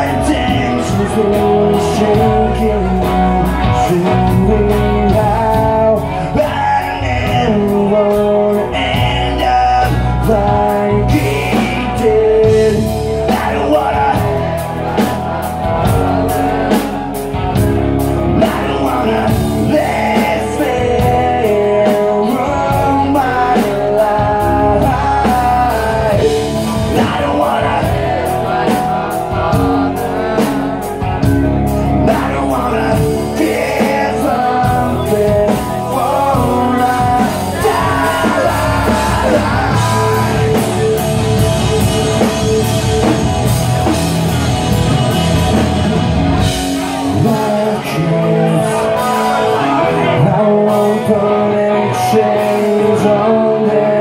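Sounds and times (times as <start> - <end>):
live rock band: 0.0 - 54.0
person singing lead vocal: 0.0 - 54.0.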